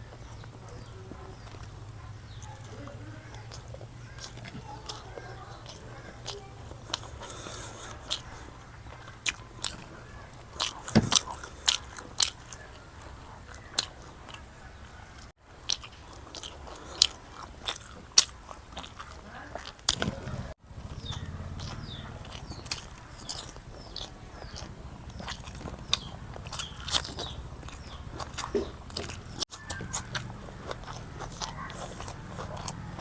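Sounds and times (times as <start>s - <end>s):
person chewing and crunching: 0.0s - 33.0s.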